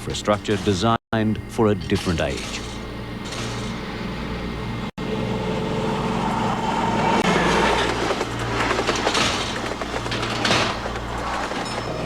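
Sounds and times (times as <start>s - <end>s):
train engine hum: 0.0s - 12.0s
train wheels on track: 0.0s - 12.0s.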